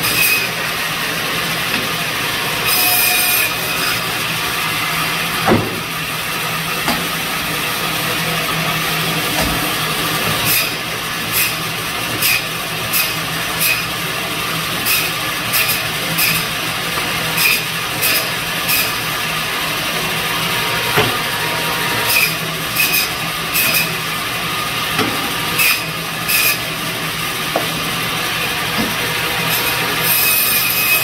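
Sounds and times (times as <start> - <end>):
band saw humming: 0.0 - 31.0.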